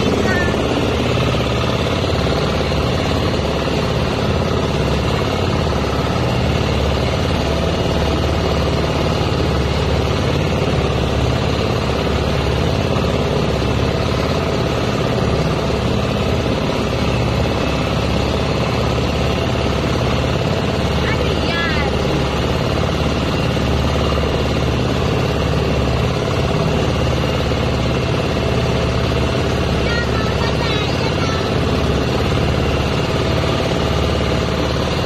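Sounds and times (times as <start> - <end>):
boat engine droning: 0.0 - 35.0
water rushing along hull: 0.0 - 35.0.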